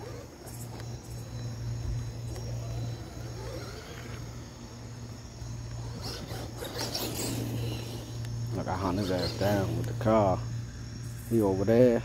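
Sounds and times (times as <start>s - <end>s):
toy truck electric motor: 0.0s - 10.4s
steady low hum: 0.0s - 12.0s.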